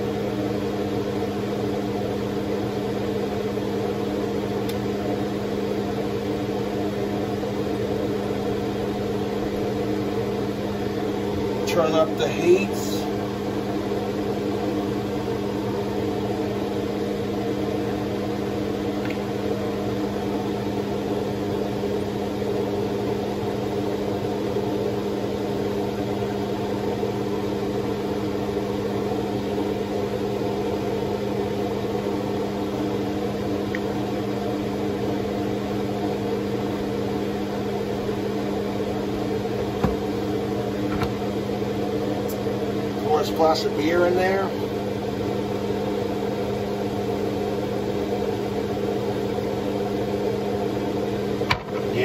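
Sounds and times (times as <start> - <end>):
kitchen fan humming: 0.0 - 52.0.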